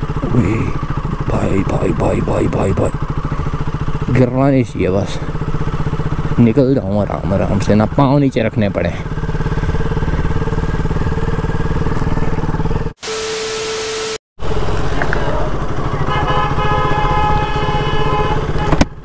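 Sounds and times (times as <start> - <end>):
motorcycle engine running: 0.0 - 13.0, 14.4 - 19.0.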